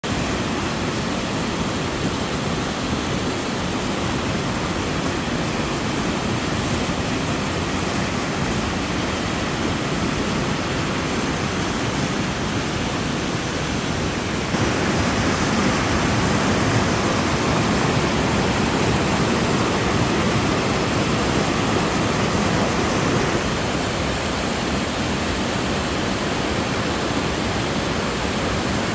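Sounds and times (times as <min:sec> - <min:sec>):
waterfall pouring: 0:00.0 - 0:28.9.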